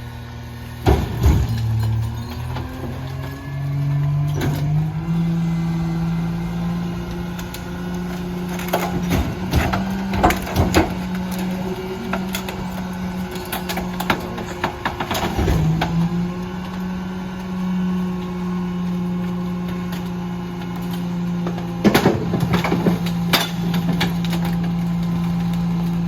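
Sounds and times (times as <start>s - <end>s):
diesel truck engine at raised revs: 0.0s - 26.0s.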